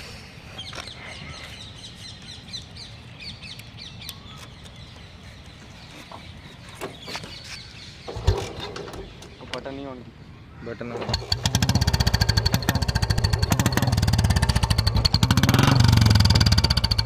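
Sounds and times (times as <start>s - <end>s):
birds chirping: 0.5s - 17.0s.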